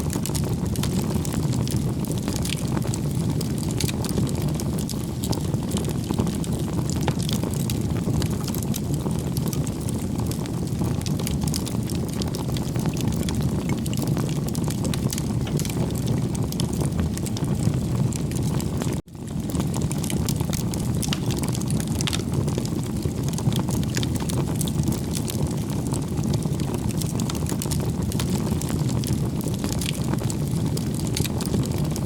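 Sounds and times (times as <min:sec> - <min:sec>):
fire crackling and popping: 0:00.0 - 0:32.0
wood fire rumbling: 0:00.0 - 0:32.0.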